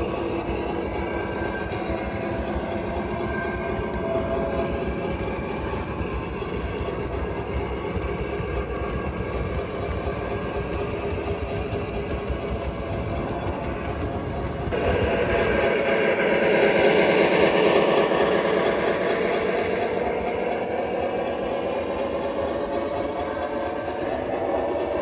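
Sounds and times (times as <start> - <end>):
model steam locomotive passing: 0.0 - 25.0
model train wheels clattering: 0.0 - 25.0.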